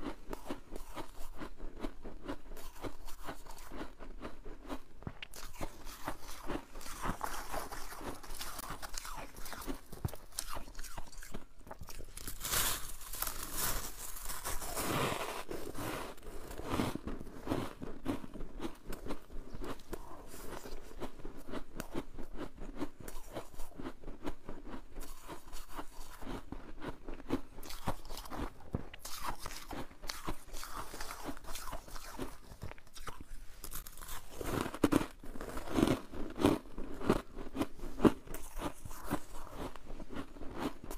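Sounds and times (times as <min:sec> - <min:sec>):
frost crunching while chewed: 0:00.0 - 0:40.9.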